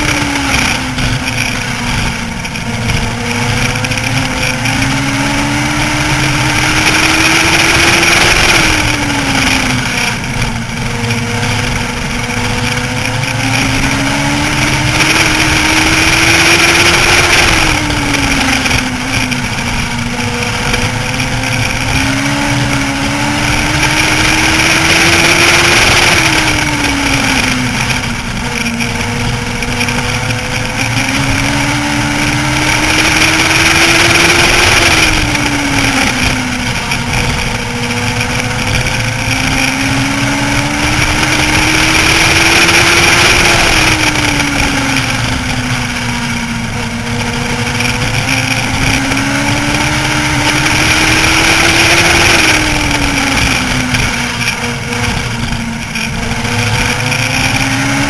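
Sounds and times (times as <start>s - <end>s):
racing car engine revving: 0.0s - 58.0s
wind and road noise: 0.0s - 58.0s.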